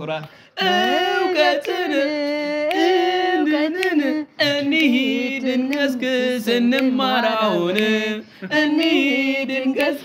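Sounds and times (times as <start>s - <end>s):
person singing: 0.6s - 10.0s.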